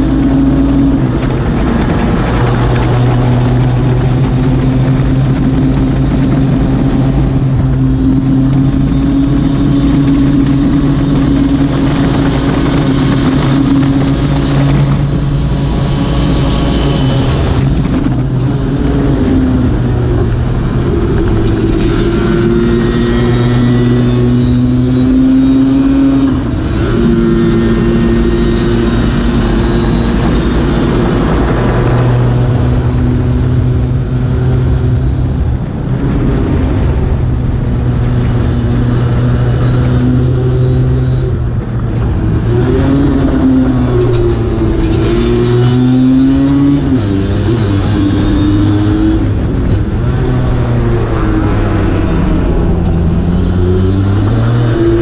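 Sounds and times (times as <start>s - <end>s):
scooter engine revving high: 0.0s - 55.0s.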